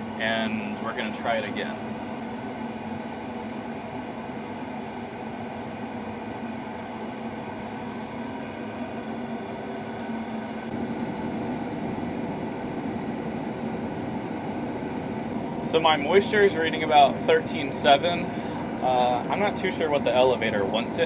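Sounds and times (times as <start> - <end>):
engine with fan droning: 0.0 - 21.0
steady low hum: 0.0 - 21.0.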